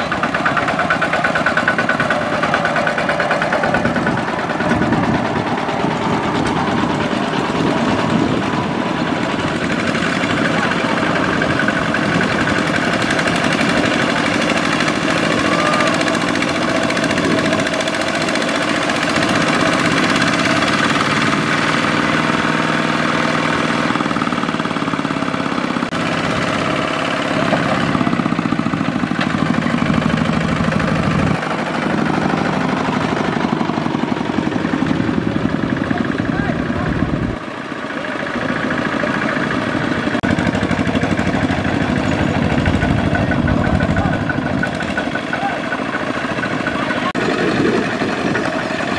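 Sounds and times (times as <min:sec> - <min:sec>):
diesel engine chugging: 0:00.0 - 0:48.9.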